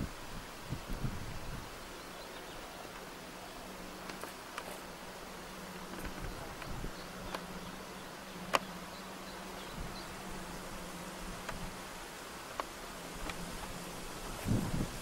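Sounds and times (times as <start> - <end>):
even hiss: 0.0 - 15.0
low buzz: 0.0 - 15.0.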